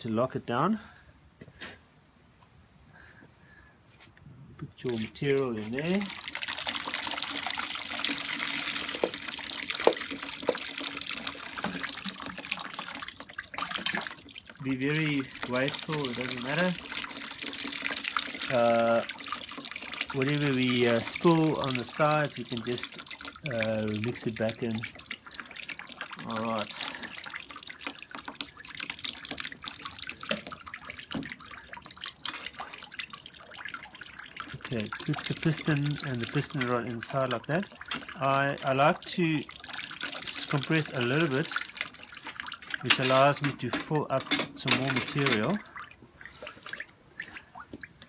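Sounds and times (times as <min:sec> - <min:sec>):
water trickling into basin: 0:04.7 - 0:48.0
slurry pouring from jug: 0:04.8 - 0:47.5
water drops falling: 0:04.9 - 0:48.0.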